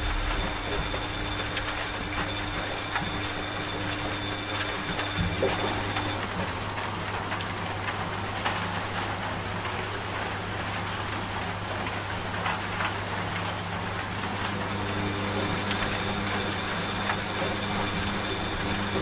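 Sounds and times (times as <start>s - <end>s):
steady rain falling: 0.0s - 19.0s
washing machine hum: 0.0s - 19.0s.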